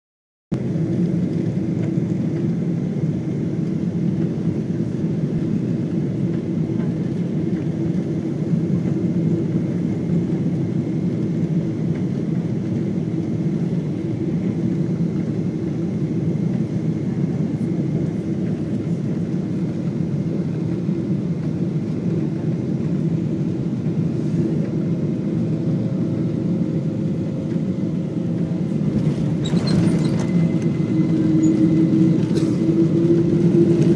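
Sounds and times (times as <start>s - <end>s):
jet engines in cabin: 0.5s - 33.9s.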